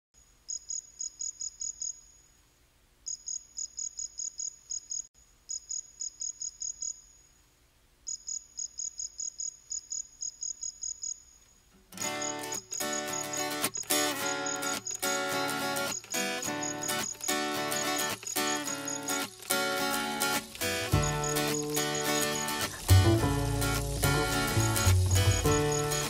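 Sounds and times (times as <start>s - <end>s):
cricket chirping: 0.2s - 2.3s, 3.0s - 7.4s, 8.0s - 26.0s.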